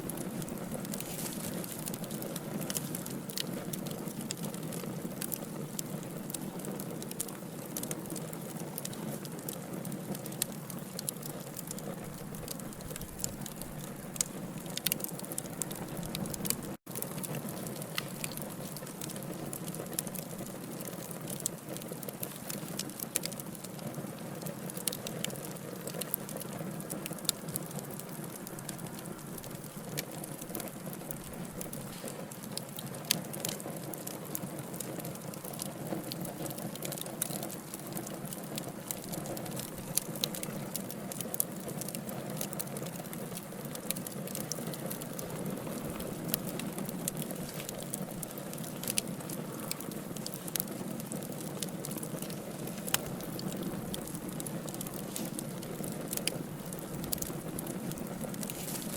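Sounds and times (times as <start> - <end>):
burning logs crackling: 0.0 - 58.9
flames rushing: 0.0 - 58.9.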